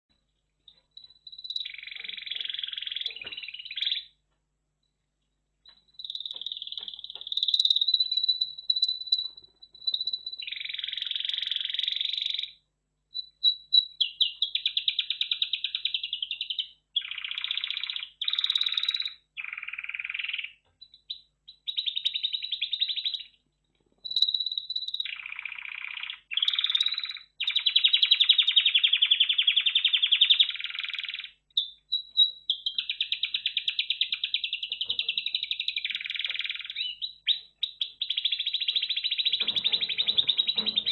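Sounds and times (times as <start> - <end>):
canary singing trills: 0.7 - 4.2, 5.7 - 40.9.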